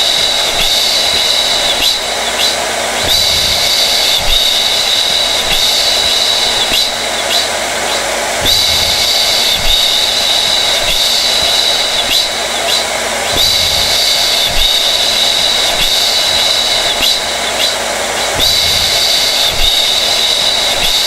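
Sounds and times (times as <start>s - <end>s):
blow dryer running: 0.0s - 21.0s.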